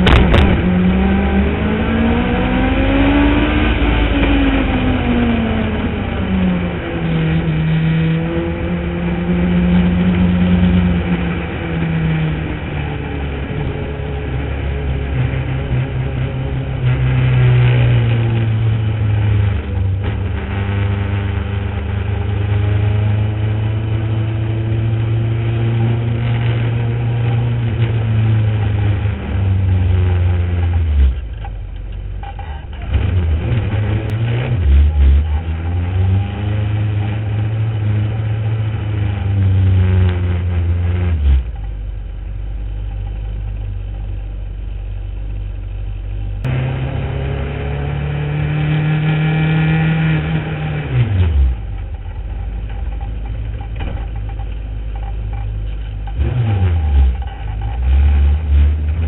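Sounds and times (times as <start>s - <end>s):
race car engine revving: 0.0s - 31.6s, 32.2s - 41.9s, 46.2s - 59.0s.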